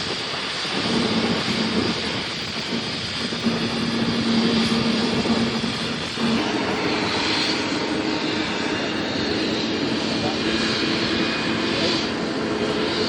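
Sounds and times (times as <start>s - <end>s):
airliner engines running: 0.0s - 13.0s.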